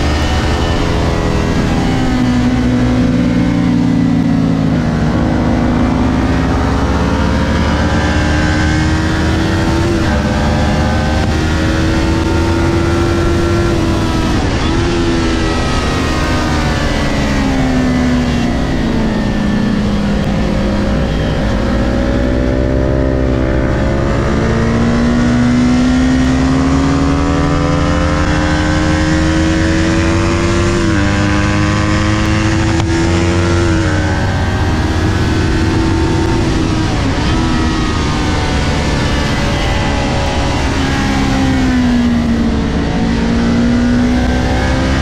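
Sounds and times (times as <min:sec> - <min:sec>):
motorcycle engine at racing revs: 0:00.0 - 0:45.0.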